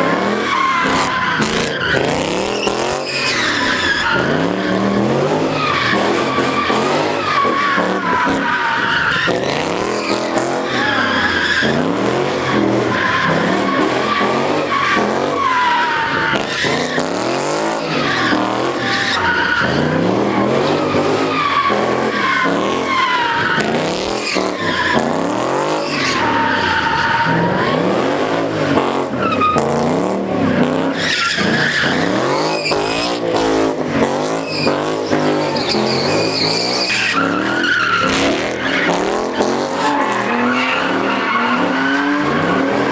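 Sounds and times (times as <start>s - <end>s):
tyres squealing: 0.0s - 27.9s, 30.5s - 42.9s
car engine revving: 0.0s - 42.9s.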